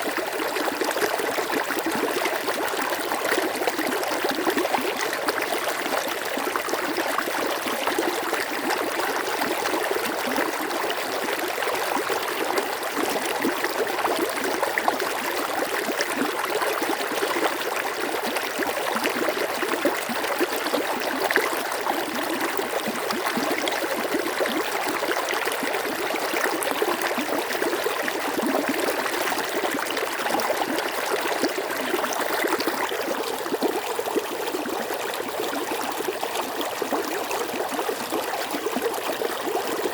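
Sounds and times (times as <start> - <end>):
stream water flowing and babbling: 0.0 - 39.9.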